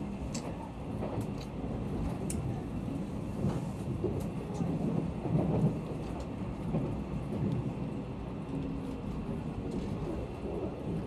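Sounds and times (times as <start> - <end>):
train coach rumbling: 0.0 - 11.0.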